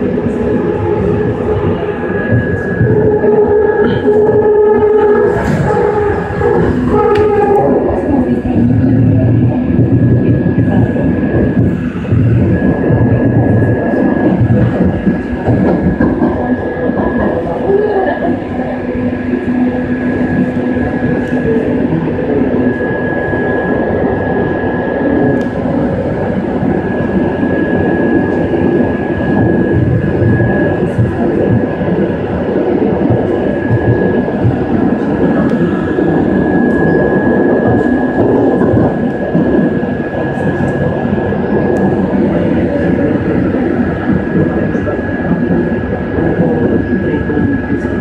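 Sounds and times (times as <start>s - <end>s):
metro train rumble: 0.0s - 48.0s
thin steady whine: 0.0s - 48.0s.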